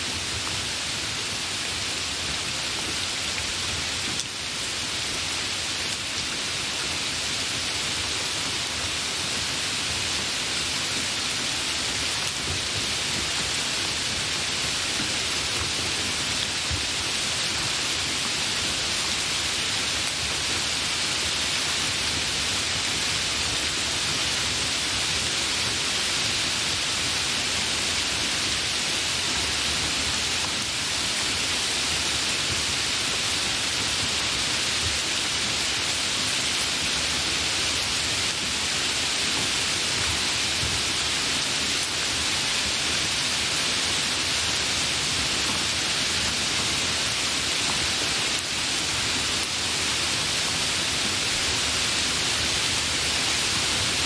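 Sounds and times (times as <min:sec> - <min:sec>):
hard rain falling: 0:00.0 - 0:54.0.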